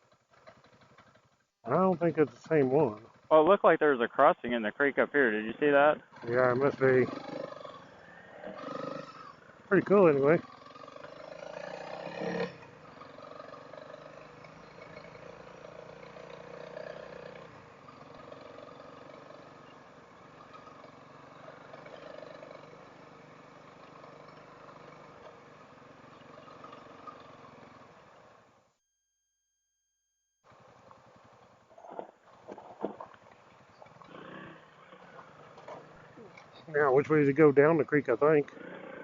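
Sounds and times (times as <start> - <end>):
motorcycle engine running: 0.0 - 28.7, 30.4 - 39.0.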